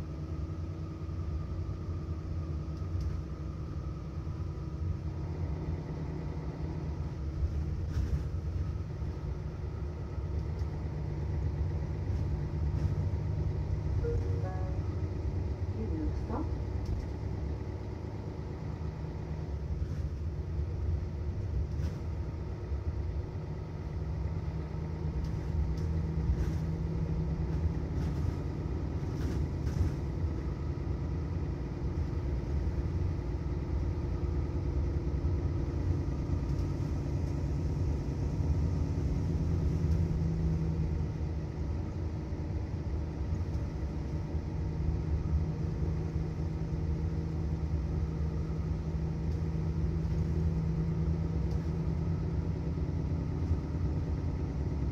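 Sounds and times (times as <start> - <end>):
bus diesel engine rumbling: 0.0 - 54.9.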